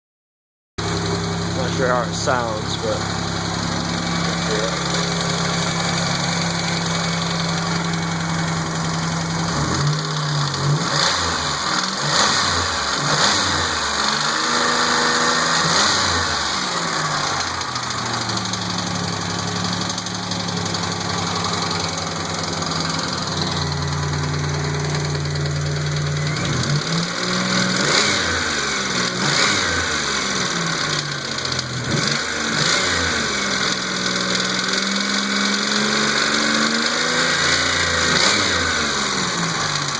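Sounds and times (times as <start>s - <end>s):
car engine idling and revving: 0.8s - 39.9s.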